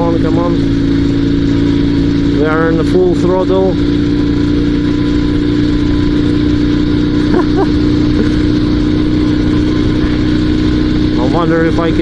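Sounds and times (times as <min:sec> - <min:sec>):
motorcycle engine at full throttle: 0:00.0 - 0:12.0.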